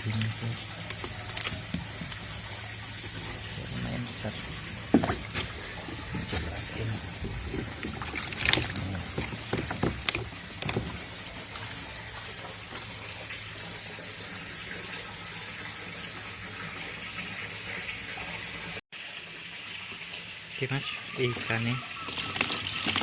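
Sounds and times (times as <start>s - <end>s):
steady watery hiss: 0.0s - 18.8s
water splashing and dripping: 0.0s - 23.0s.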